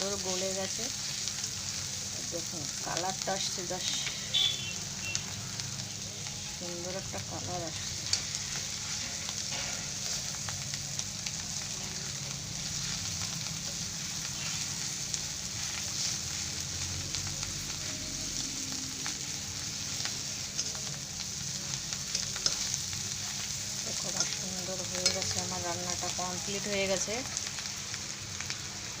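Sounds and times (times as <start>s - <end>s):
chutney sizzling in a pan: 0.0s - 29.0s.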